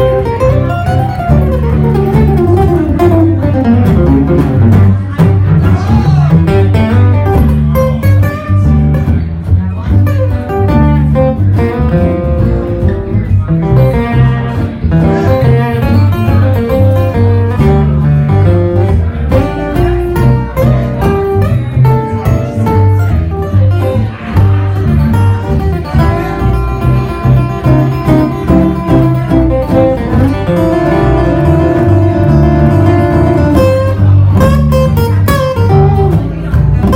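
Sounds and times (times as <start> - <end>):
low bass line: 0.0 - 36.9
picked guitar notes: 0.0 - 36.9.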